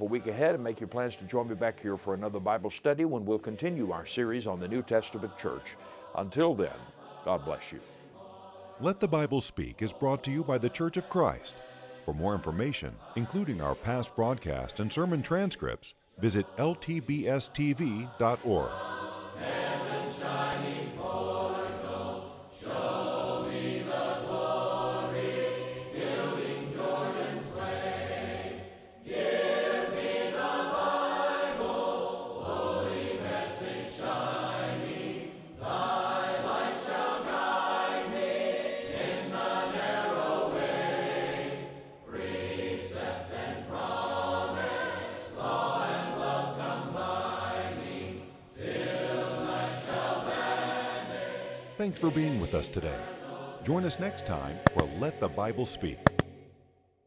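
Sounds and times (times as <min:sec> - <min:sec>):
choir singing a hymn: 0:00.0 - 0:56.6.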